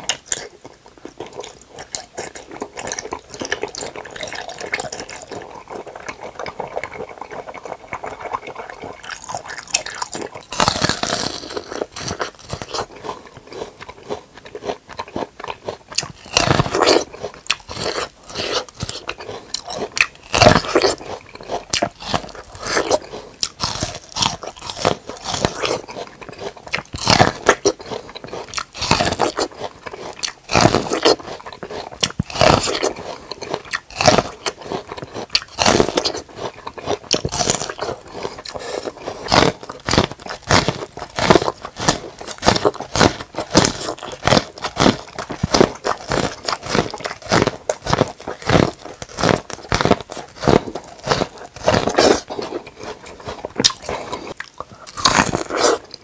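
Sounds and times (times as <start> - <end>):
crunchy chewing of corn on cob: 0.0 - 56.0.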